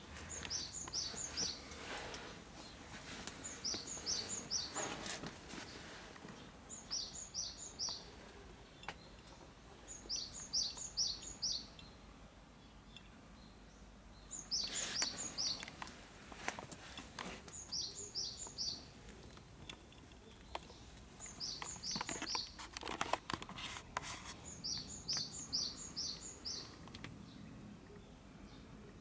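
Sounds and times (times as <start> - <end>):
small bird chirping: 0.0 - 2.8, 3.4 - 5.0, 6.4 - 12.0, 12.7 - 15.8, 17.4 - 29.0.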